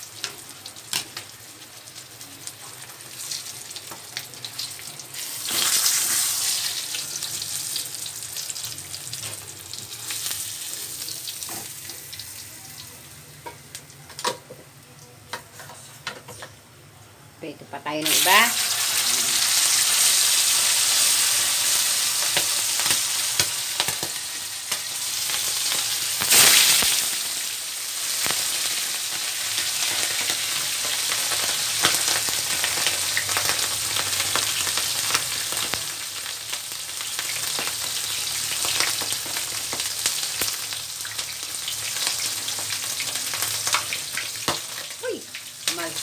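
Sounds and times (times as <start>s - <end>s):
fish frying in hot oil: 0.0s - 13.1s, 18.0s - 46.0s.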